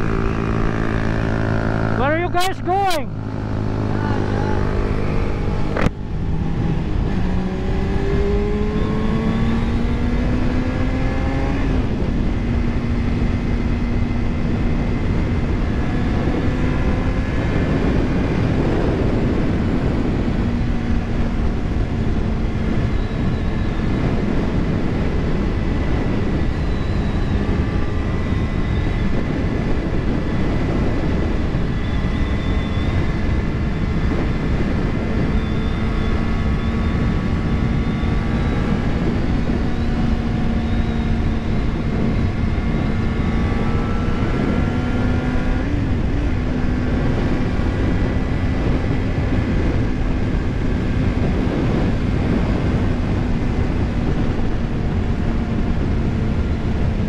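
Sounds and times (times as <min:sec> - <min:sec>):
motorcycle engine pulling hard: 0:00.0 - 0:57.0
wind noise on microphone: 0:00.0 - 0:57.0.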